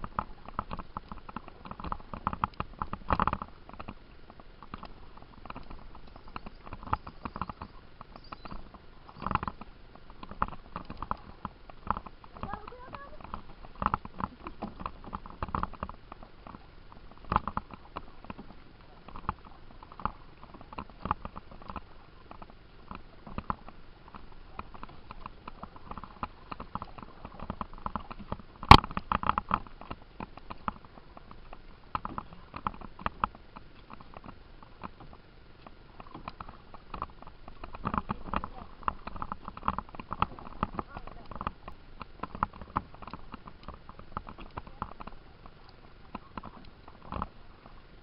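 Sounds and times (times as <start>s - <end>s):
paddles splashing in water: 0.0s - 48.0s.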